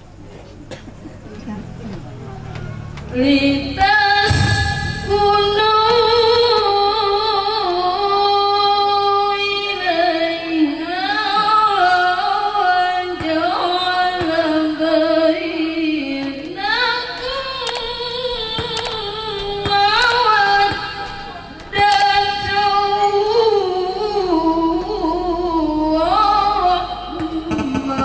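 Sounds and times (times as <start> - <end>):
woman chanting recitation: 1.2 - 28.0.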